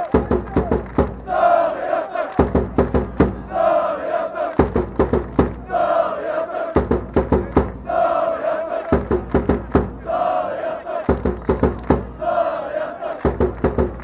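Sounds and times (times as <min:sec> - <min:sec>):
loud drum beats: 0:00.0 - 0:01.7, 0:02.3 - 0:06.1, 0:06.7 - 0:12.5, 0:13.1 - 0:14.0
crowd chanting: 0:00.0 - 0:14.0.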